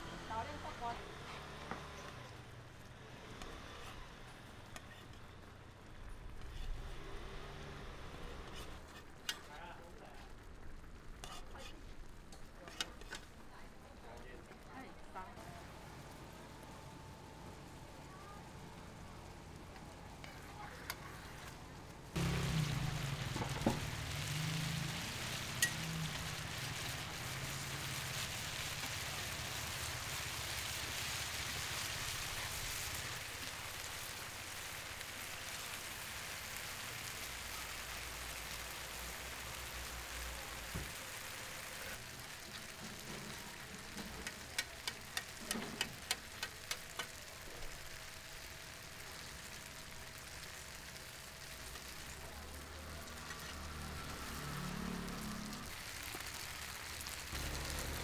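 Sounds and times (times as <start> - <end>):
food sizzling in hot oil: 0.2 - 13.5, 19.1 - 58.0.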